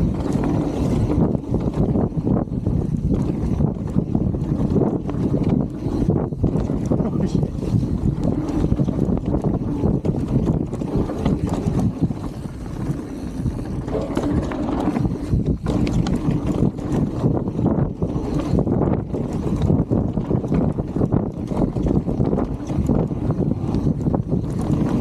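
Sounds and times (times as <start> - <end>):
bike clattering over bumps: 0.0 - 25.0
bike tyres rumbling on dirt: 0.0 - 25.0
wind buffeting microphone: 0.0 - 25.0.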